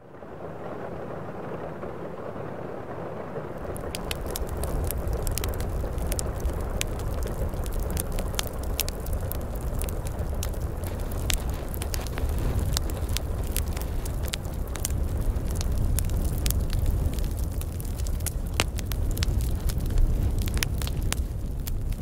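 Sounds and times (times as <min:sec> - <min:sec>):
steady rain: 0:00.0 - 0:22.0
wood fire crackling: 0:03.4 - 0:22.0
low rumble: 0:03.6 - 0:22.0.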